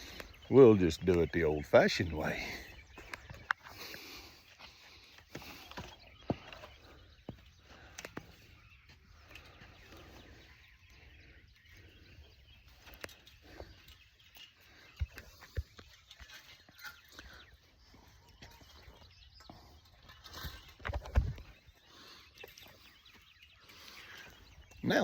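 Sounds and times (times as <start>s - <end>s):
faint outdoor background: 0.0s - 25.0s.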